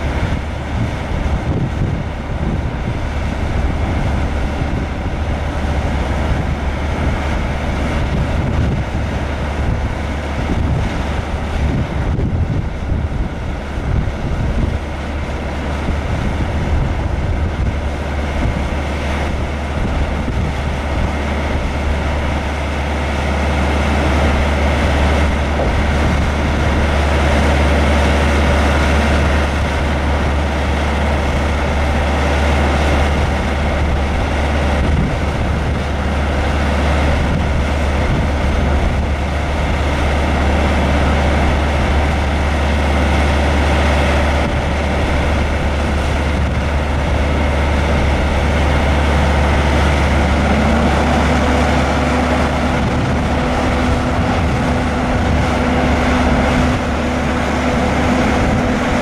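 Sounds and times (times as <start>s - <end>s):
diesel truck engine droning: 0.0s - 59.0s.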